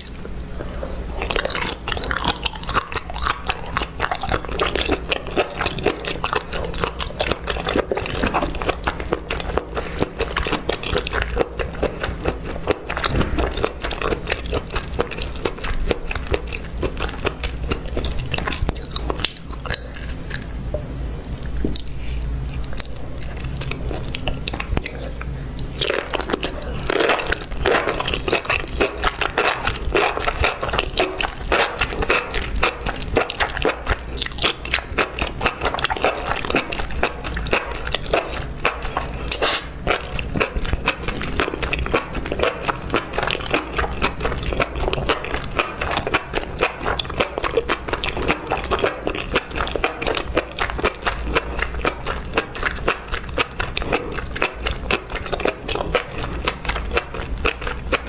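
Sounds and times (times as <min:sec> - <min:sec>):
close chewing with wet mouth clicks: 0:00.0 - 0:58.0.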